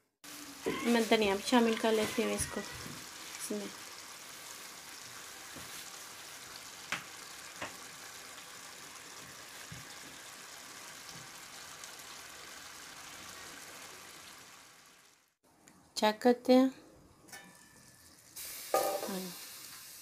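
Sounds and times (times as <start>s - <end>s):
food sizzling in a pot: 0.2s - 15.4s, 17.3s - 20.0s.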